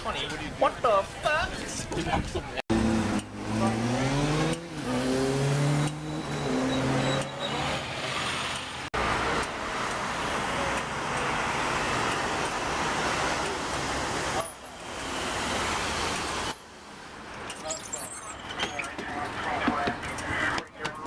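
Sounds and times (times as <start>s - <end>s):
traffic noise: 0.0s - 21.0s.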